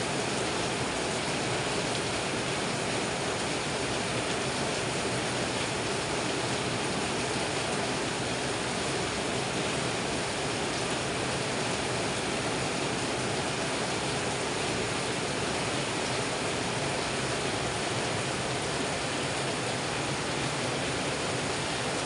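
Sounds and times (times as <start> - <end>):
heavy rain on foliage: 0.0 - 22.0.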